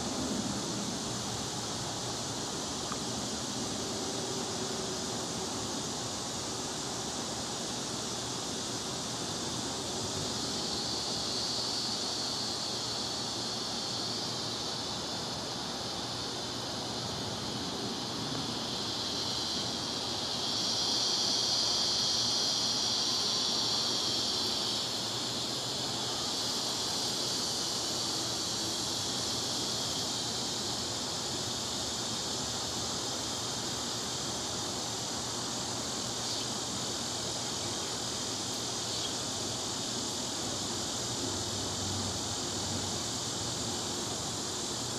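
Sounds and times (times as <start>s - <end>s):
background hiss: 0.0s - 44.9s
high insect drone: 0.0s - 44.9s.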